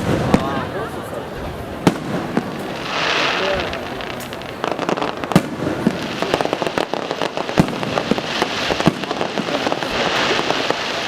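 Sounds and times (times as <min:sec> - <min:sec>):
fireworks bangs: 0:00.0 - 0:11.0
fireworks crackling: 0:00.0 - 0:11.0
hissing crackle: 0:01.9 - 0:11.0.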